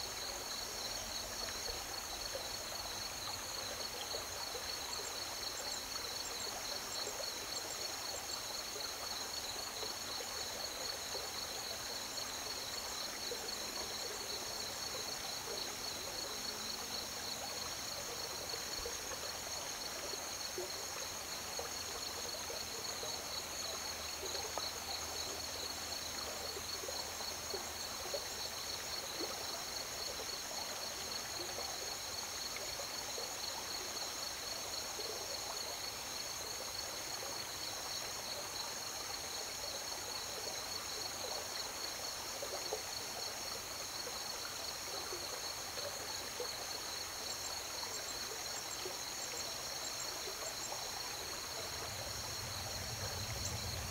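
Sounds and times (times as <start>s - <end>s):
crickets chirping: 0.0s - 53.9s
river water flowing: 0.0s - 53.9s.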